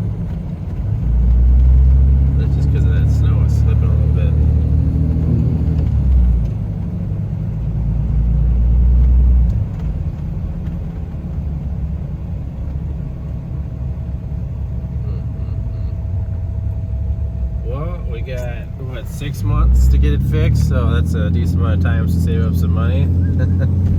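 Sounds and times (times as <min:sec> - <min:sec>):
diesel truck engine: 0:00.0 - 0:23.9
road rumble: 0:00.0 - 0:23.9.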